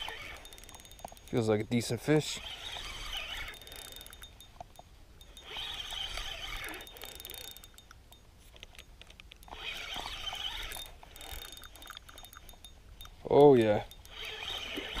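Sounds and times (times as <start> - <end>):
spinning reel whirring and ticking: 0.0 - 15.0.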